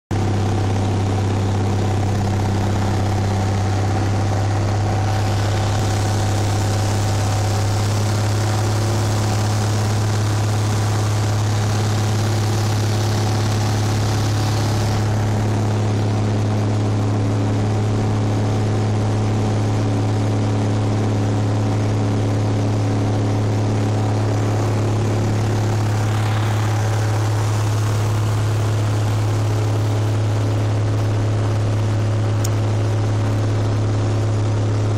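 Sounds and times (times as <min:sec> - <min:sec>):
propeller plane engine droning: 0:00.1 - 0:34.9.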